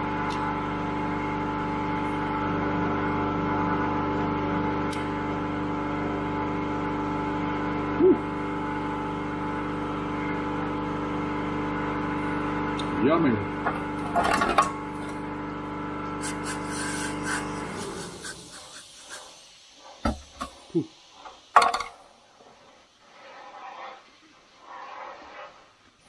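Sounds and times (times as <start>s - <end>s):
workshop machine humming: 0.0s - 22.0s.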